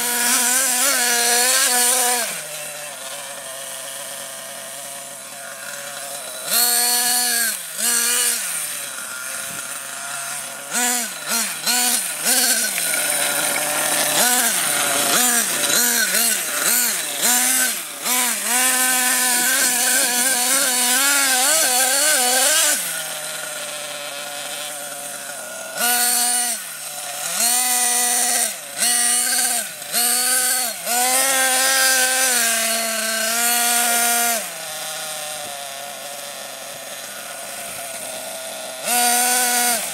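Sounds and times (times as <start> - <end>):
small nitro engine revving: 0.0 - 39.9.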